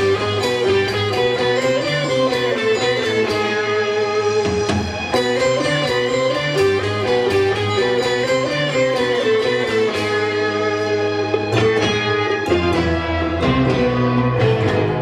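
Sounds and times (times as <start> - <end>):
bass line: 0.0 - 15.0
electric guitar melody: 0.0 - 15.0.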